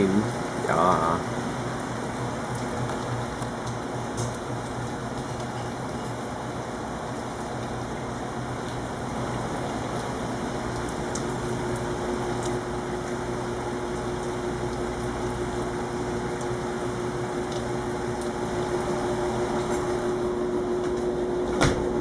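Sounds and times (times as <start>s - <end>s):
rain on concrete: 0.0s - 22.0s.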